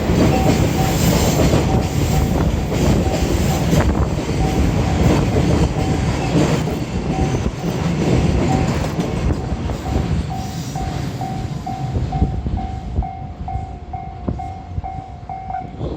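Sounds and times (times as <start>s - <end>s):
crossing warning bell ringing: 0.0s - 15.9s
train wagons clattering over rails: 0.0s - 15.9s.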